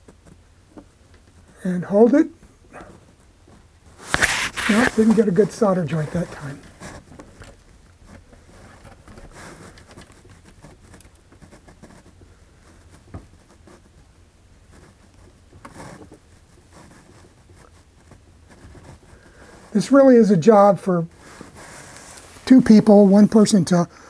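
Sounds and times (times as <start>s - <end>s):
faint rustling and handling noise: 0.0s - 24.0s.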